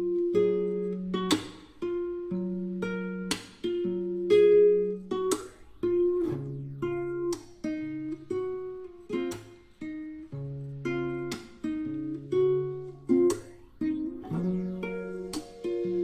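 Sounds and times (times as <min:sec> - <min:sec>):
acoustic guitar picking and strumming: 0:00.0 - 0:16.0.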